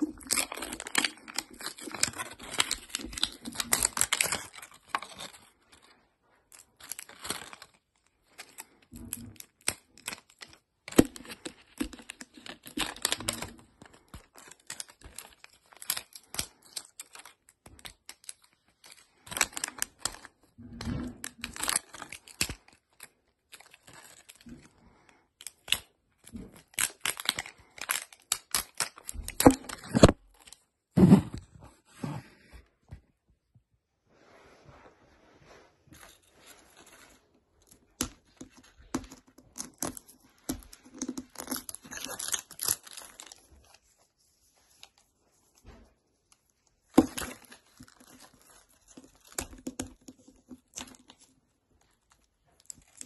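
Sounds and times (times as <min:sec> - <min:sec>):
plastic wrapping crinkling and tearing: 0:00.0 - 0:31.2, 0:36.1 - 0:53.0.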